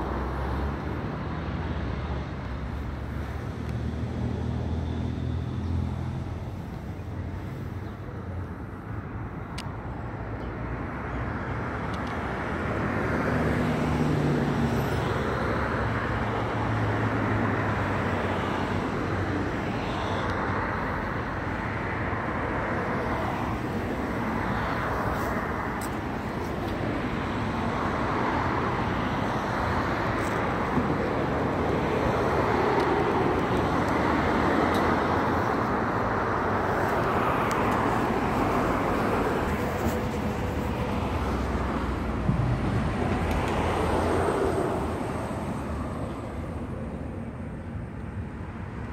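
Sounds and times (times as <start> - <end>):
road traffic noise: 0.0 - 48.9.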